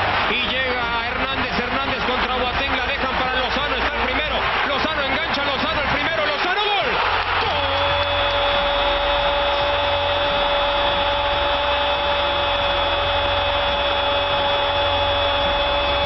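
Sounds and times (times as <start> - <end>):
sportscaster shouting: 0.0 - 16.0
stadium crowd noise: 0.0 - 16.0.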